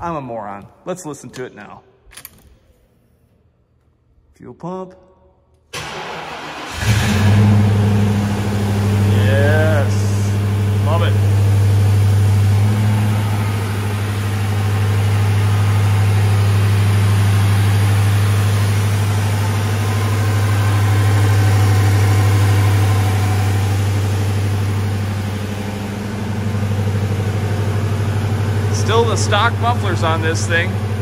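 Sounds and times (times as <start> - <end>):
car engine idling: 5.8 - 31.0.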